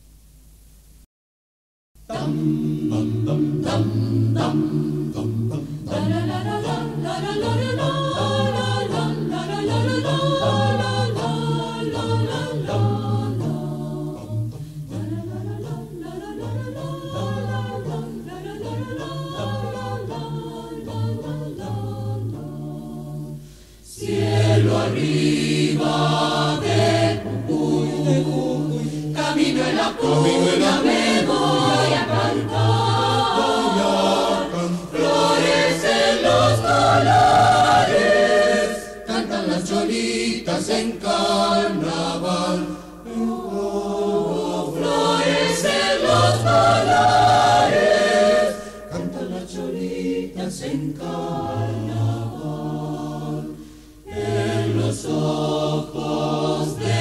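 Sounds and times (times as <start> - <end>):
choir singing: 2.0 - 57.0.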